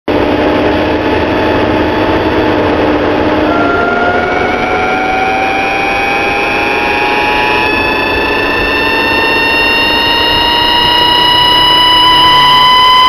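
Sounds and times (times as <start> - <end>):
car running with road noise: 0.1 - 13.0
higher whine: 0.1 - 13.0
thin whine rising in pitch: 0.1 - 13.0.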